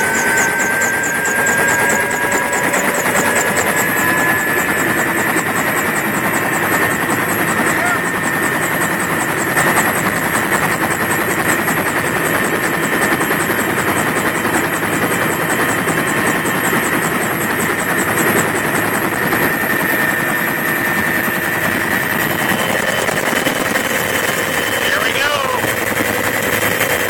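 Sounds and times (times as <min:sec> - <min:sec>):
helicopter engine and rotor: 0:00.0 - 0:27.0.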